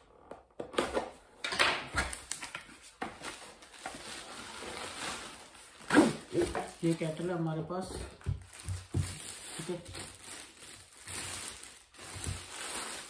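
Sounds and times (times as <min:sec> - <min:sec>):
cardboard rustling: 0:01.9 - 0:13.0.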